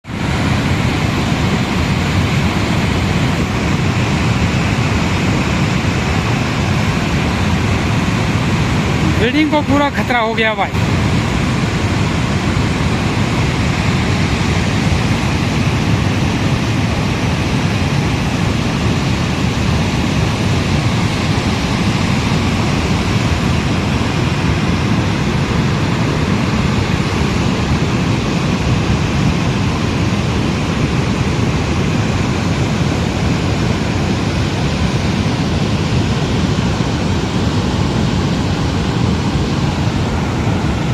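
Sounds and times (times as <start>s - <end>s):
rushing floodwater: 0.0s - 40.9s.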